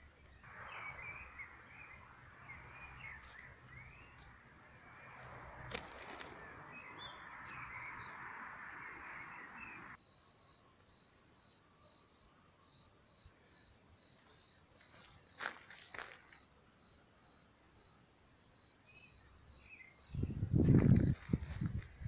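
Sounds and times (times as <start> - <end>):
cricket chirping: 0.2 - 22.0.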